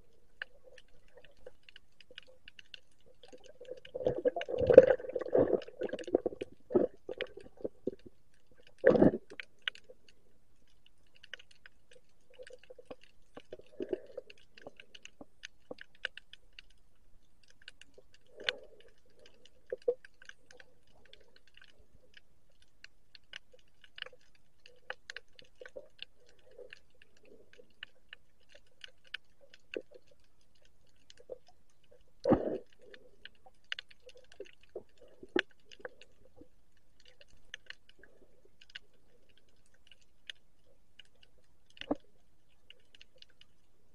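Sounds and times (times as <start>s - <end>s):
sharp underwater clicks and crackles: 0.0s - 43.9s.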